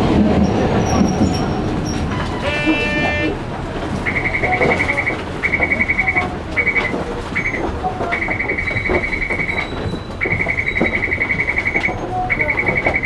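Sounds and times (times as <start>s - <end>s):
tram interior rumble: 0.0s - 13.0s.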